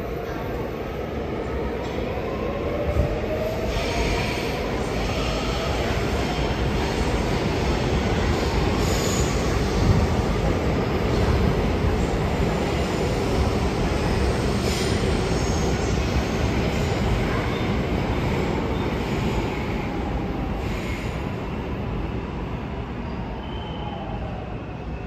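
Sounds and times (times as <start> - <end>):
train wheels rumbling on rail: 1.7 - 22.9.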